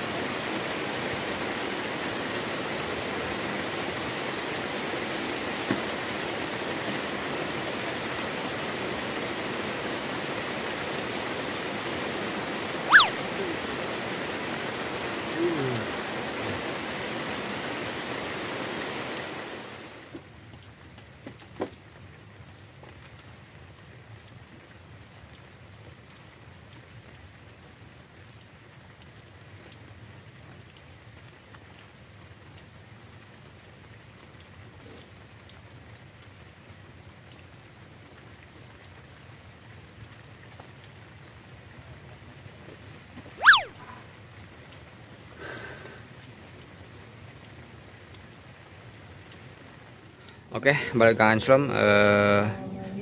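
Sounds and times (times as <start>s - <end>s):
heavy rain on water: 0.0s - 53.0s.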